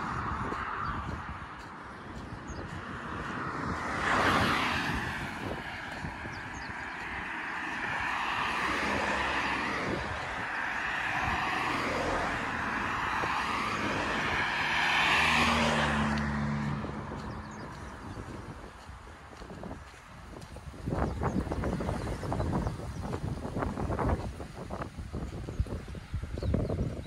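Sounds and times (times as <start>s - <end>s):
cars passing on asphalt: 0.0s - 27.0s
low engine hum: 0.0s - 27.0s.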